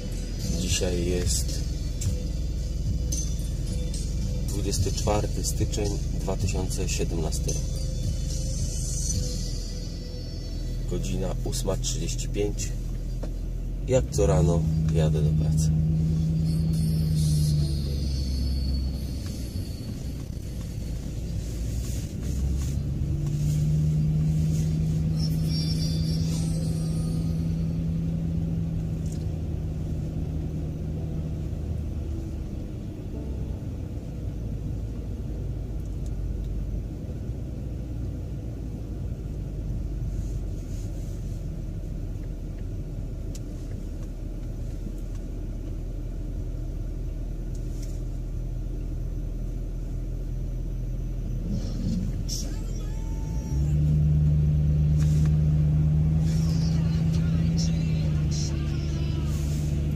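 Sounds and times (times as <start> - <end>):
car engine hum: 0.0 - 59.9
road noise inside car: 0.0 - 59.9.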